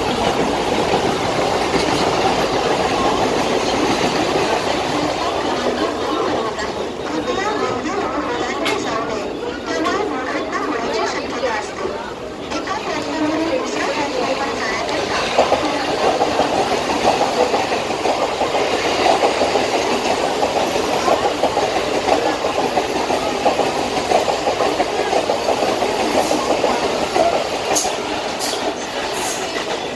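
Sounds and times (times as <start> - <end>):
electric train passing at speed: 0.0 - 29.9
train wheels clattering over track: 0.0 - 29.9.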